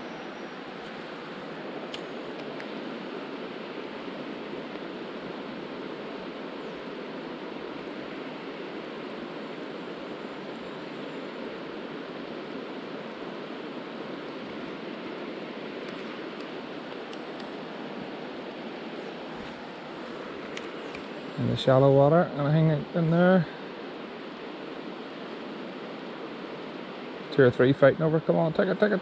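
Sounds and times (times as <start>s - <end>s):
river water rushing over stones: 0.1s - 27.5s.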